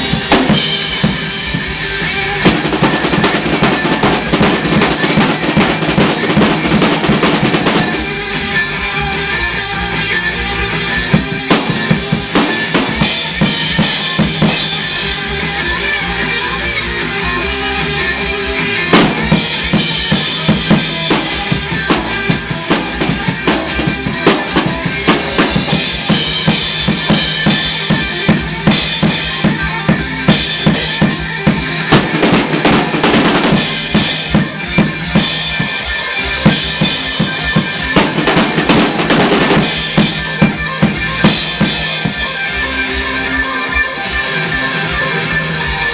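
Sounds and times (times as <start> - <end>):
rock drum kit beat: 0.0 - 45.9
rock music: 0.0 - 45.9.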